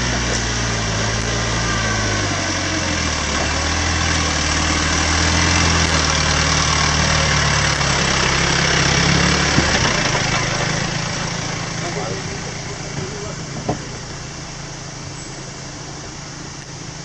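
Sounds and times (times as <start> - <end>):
suv engine running under load: 0.0 - 17.0.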